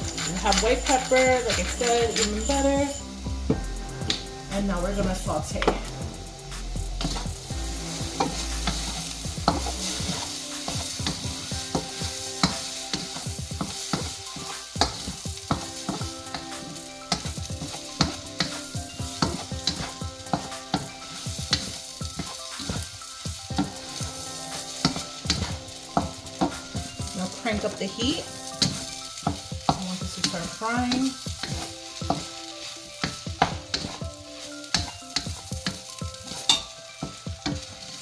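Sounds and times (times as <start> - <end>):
rice sizzling in a pan: 0.0 - 38.0
utensil scraping and knocking pan: 7.0 - 22.9, 23.5 - 38.0.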